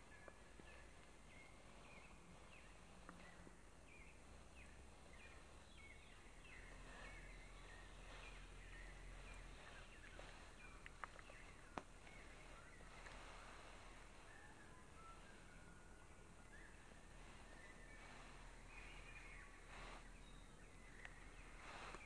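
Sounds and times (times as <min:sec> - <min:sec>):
small bird chirping: 0:00.0 - 0:22.0
steady low rumble: 0:00.0 - 0:22.0.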